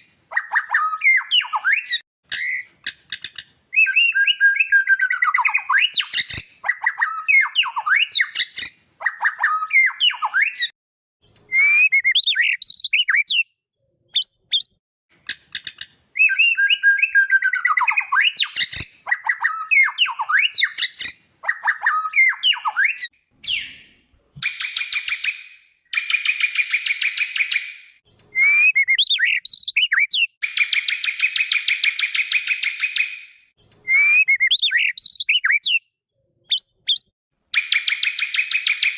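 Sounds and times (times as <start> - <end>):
bird singing whistled notes: 0.0 - 10.7, 11.5 - 13.5, 14.1 - 35.9, 36.5 - 38.9.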